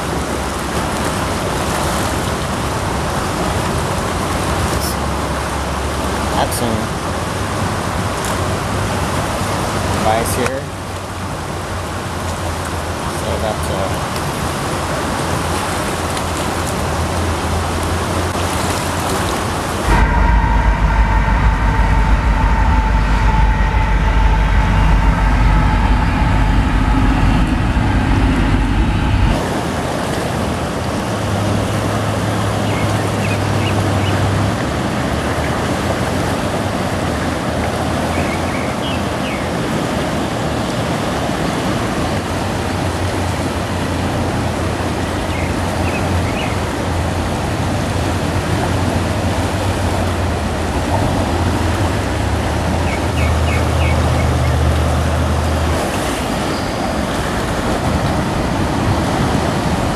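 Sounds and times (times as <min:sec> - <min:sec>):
rushing river floodwater: 0:00.0 - 0:22.2, 0:29.3 - 0:59.9
train rumbling past: 0:00.0 - 0:59.9.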